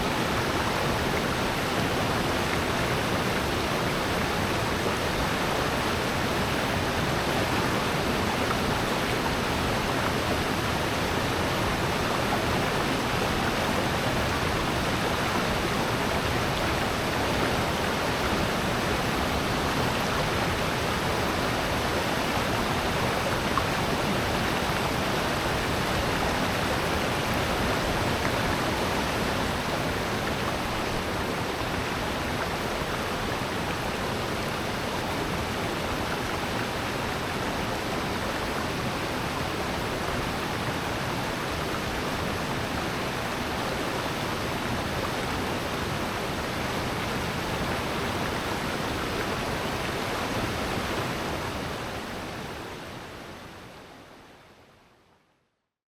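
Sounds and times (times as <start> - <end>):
stream and waterfall rushing: 0.0 - 54.7.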